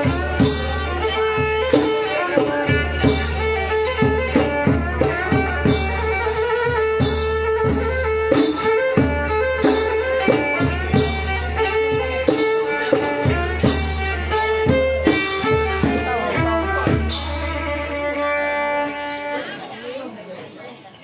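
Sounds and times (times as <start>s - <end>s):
hand drums beating: 0.0s - 18.1s
bowed fiddle melody: 0.0s - 20.0s.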